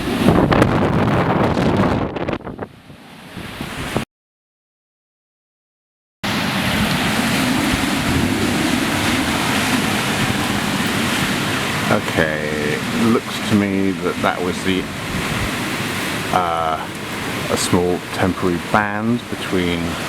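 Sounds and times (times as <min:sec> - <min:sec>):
sea surf: 0:00.0 - 0:04.0, 0:06.2 - 0:20.0
loud wind rush on microphone: 0:00.0 - 0:04.1, 0:06.3 - 0:20.0.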